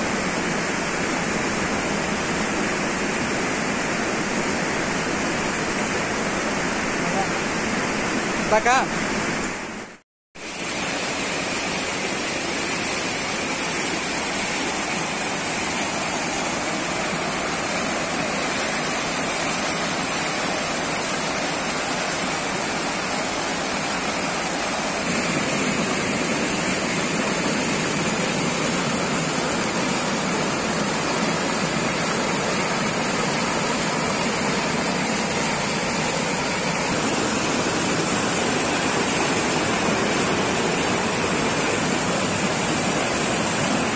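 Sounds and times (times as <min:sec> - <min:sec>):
small waterfall over rocks: 0:00.0 - 0:09.7, 0:10.4 - 0:43.9.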